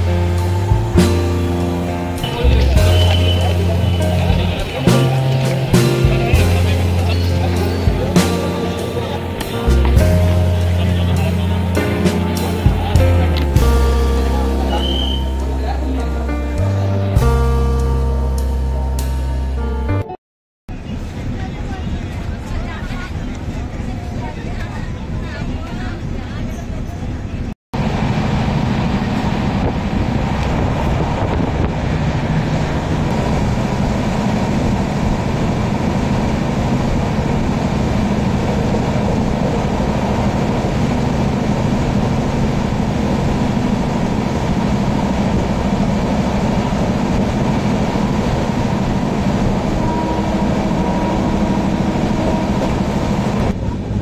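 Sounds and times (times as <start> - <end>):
train wheels on rails: 1.7 - 16.2, 20.9 - 54.0.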